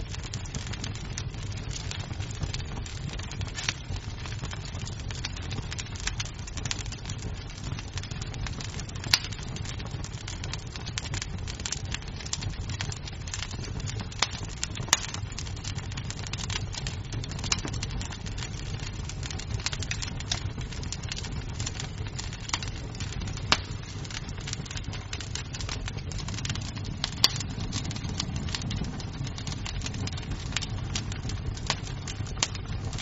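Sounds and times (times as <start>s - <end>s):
fire popping: 0.0s - 33.0s
wood fire crackling: 0.0s - 33.0s.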